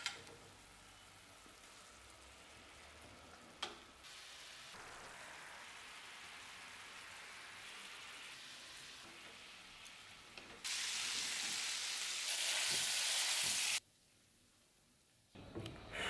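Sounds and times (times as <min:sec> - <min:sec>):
meat and onions sizzling: 0:00.1 - 0:13.8
sauce bubbling in a frying pan: 0:00.1 - 0:13.8.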